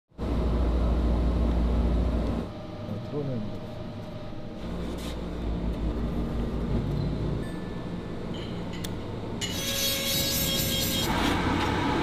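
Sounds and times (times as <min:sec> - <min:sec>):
low machinery rumble and hum: 0:00.1 - 0:12.0.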